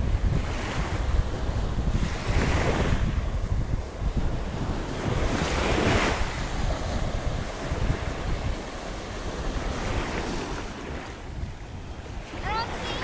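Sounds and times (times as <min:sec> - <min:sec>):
small sea waves washing: 0:00.0 - 0:13.0
wind buffeting microphone: 0:00.0 - 0:13.0.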